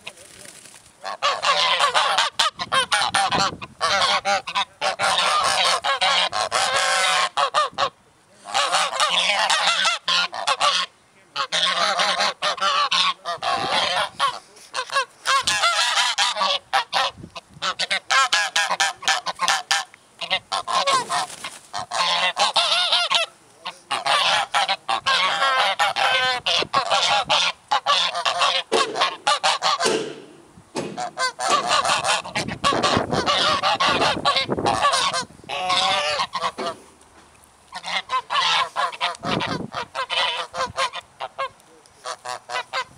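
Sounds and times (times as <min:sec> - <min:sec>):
geese honking: 0:01.0 - 0:36.9, 0:37.7 - 0:42.9.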